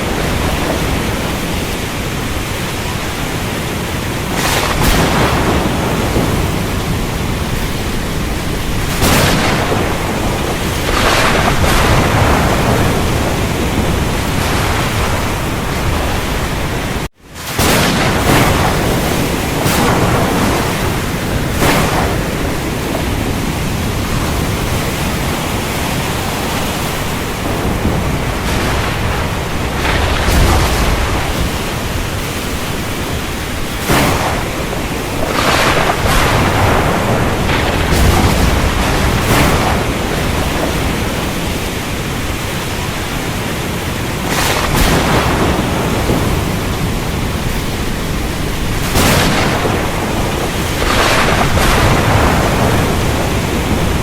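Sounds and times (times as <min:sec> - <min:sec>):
heavy rain: 0:00.0 - 0:54.0
thunder rolling: 0:00.0 - 0:54.0.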